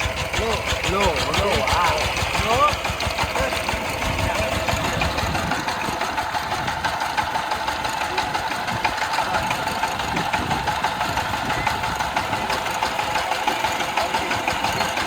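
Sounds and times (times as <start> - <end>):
tractor engine clattering: 0.0 - 15.0.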